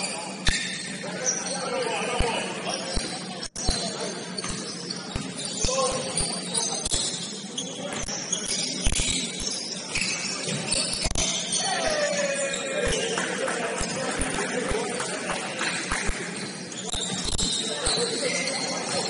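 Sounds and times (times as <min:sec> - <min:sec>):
basketball court noise: 0:00.0 - 0:19.0.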